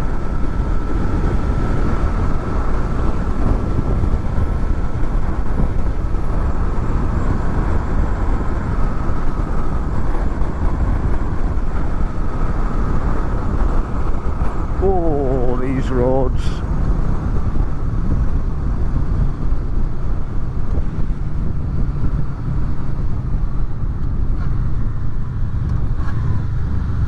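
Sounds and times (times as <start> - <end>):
wind rushing over microphones: 0.0 - 27.0.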